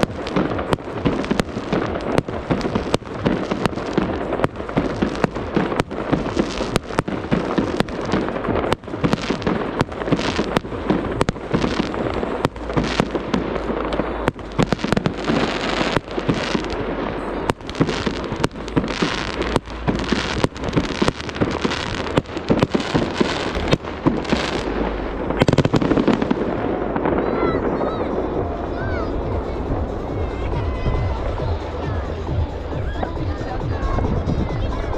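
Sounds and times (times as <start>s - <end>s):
fireworks bangs: 0.0s - 34.8s
fireworks crackling: 0.0s - 34.9s.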